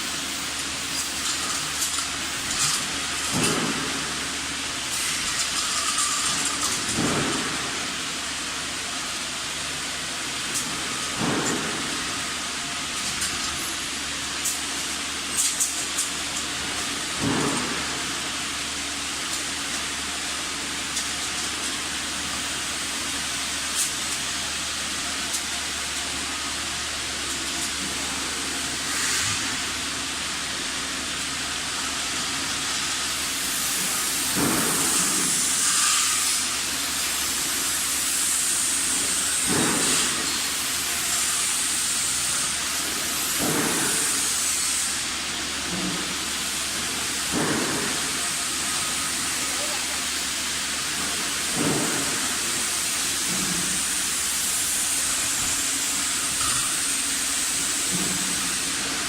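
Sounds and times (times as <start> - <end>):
fans hissing air: 0.0 - 59.0.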